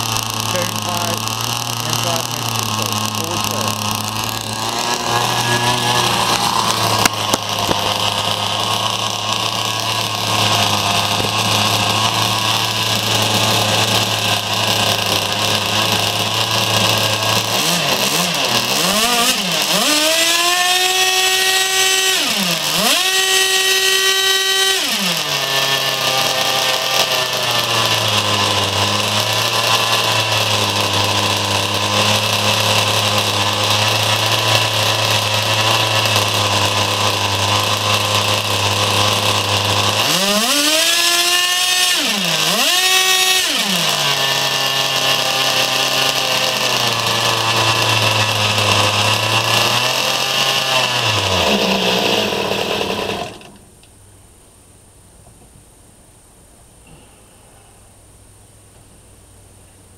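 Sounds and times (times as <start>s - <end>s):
model glow engine revving: 0.0s - 53.7s.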